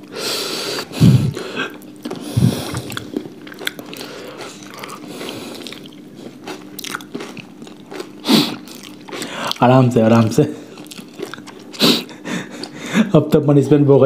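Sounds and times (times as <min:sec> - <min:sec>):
crunching and chewing crisp food: 0:00.0 - 0:14.0.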